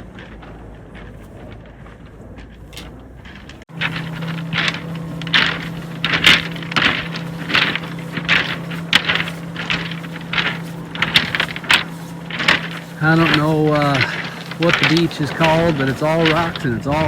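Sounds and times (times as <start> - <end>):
steady low hum: 1.4 - 17.0
footsteps crunching on stones: 3.0 - 17.0.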